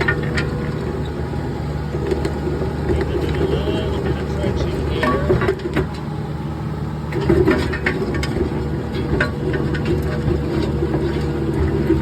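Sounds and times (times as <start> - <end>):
skid steer engine running: 0.0 - 12.0.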